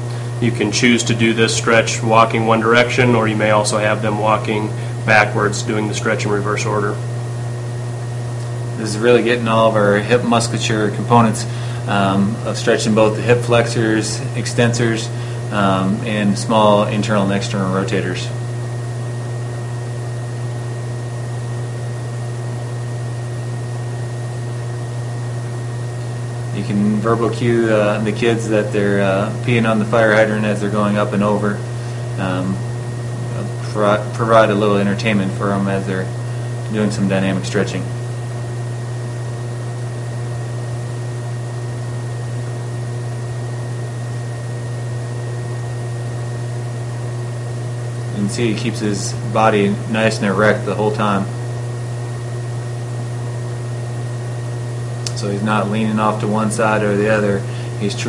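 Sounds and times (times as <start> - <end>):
faint high whine: 0.0 - 51.7, 52.6 - 58.0.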